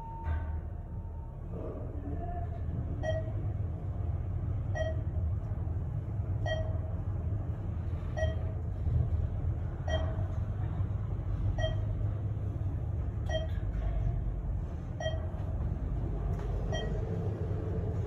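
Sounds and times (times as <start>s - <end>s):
elevator car rumbling: 0.0s - 18.0s.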